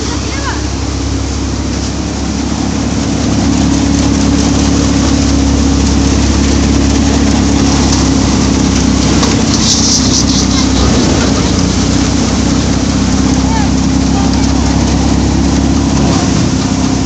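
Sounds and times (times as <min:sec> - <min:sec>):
low engine hum: 0:00.0 - 0:17.0
thresher mechanical rush: 0:00.0 - 0:17.0.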